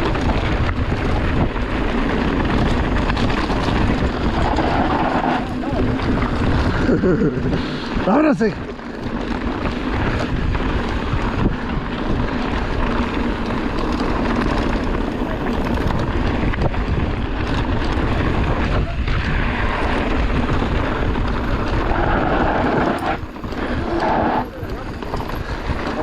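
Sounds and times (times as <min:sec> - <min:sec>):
tyres rumbling over dirt: 0:00.0 - 0:26.0
wind buffeting microphone: 0:00.0 - 0:26.0.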